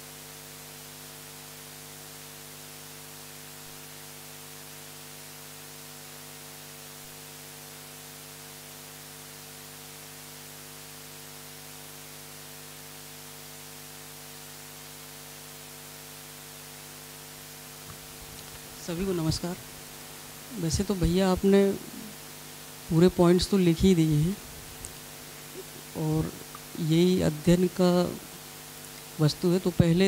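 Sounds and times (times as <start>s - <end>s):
electrical mains hum: 0.0s - 30.0s
static hiss: 0.0s - 30.0s.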